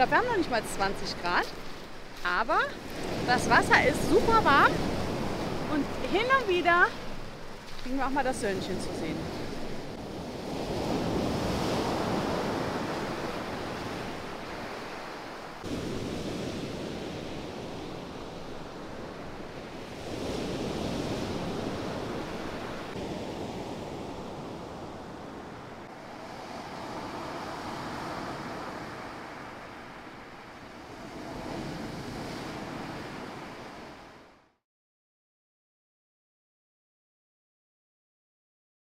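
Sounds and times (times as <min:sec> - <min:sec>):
waves breaking on a beach: 0:00.0 - 0:34.5.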